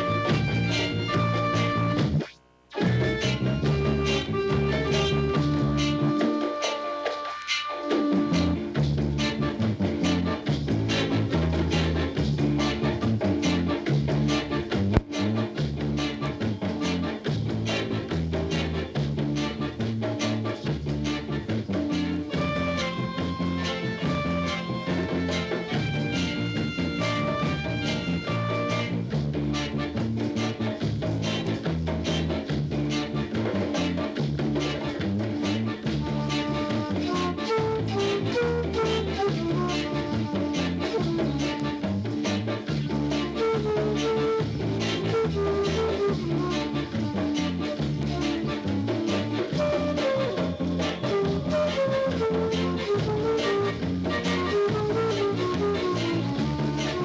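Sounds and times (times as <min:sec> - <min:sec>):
reggae music: 0:00.0 - 0:57.0.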